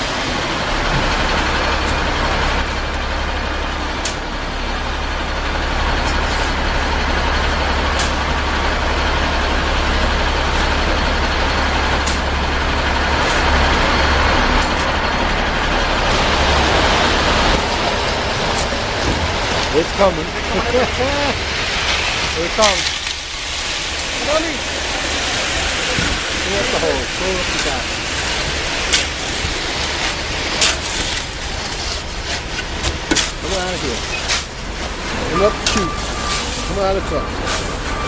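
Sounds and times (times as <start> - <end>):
diesel truck engine rumbling: 0.0 - 38.0.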